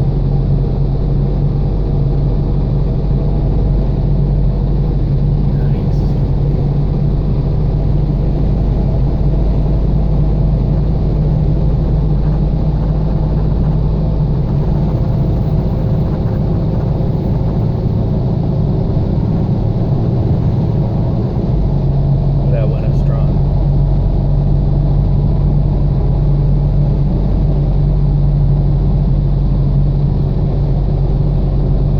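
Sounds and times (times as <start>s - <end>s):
car engine hum: 0.0s - 31.9s
road noise: 0.0s - 31.9s.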